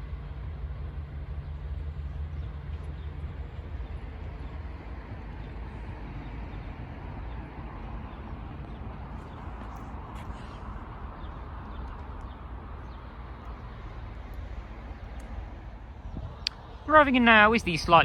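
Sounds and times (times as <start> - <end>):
diesel train engine rumble: 0.0 - 18.0.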